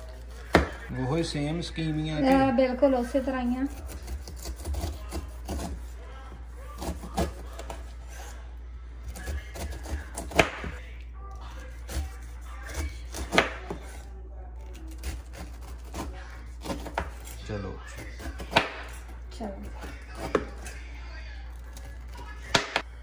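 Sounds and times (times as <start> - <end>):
knife cutting pineapple skin: 3.2 - 8.4, 9.0 - 22.9.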